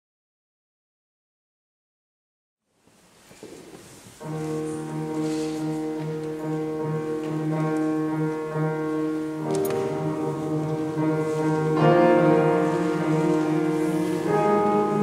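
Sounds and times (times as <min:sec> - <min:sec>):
faint room noise: 0:02.6 - 0:15.0.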